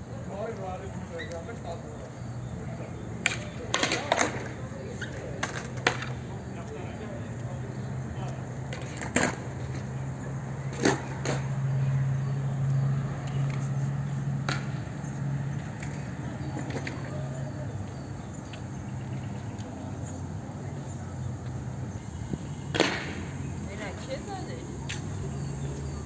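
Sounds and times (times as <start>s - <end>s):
faint voices: 0.0s - 26.0s.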